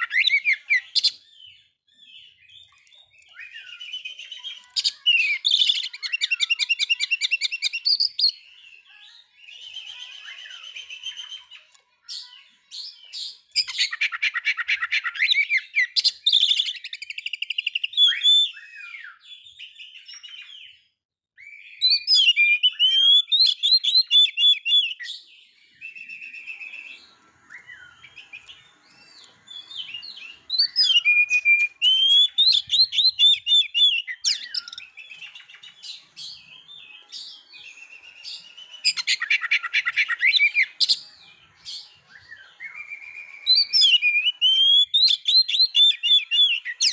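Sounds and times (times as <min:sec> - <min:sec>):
bird whistles and chirps: 0:00.0 - 0:46.9.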